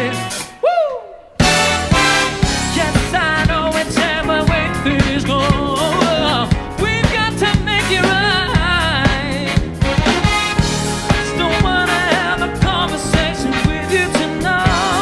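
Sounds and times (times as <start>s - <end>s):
man singing with vibrato: 0.0s - 0.9s, 2.0s - 9.9s, 11.0s - 15.0s
big band playing funk-jazz: 1.4s - 15.0s
drum hits: 1.4s - 15.0s.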